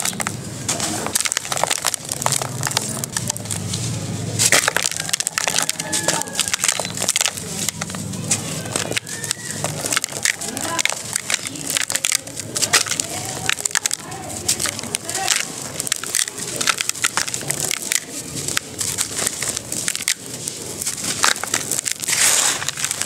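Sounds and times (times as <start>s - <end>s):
cement clumps crunching by hand: 0.0s - 23.0s
gritty powder trickling: 0.0s - 23.0s.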